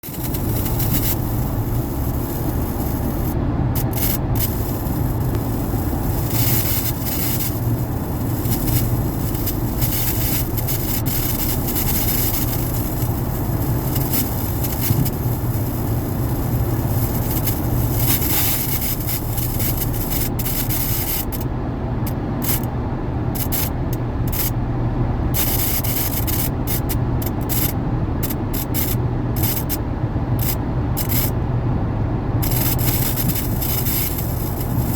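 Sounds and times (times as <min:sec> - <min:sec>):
speaker static hiss: 0:00.0 - 0:22.7, 0:23.3 - 0:31.5, 0:32.4 - 0:34.9.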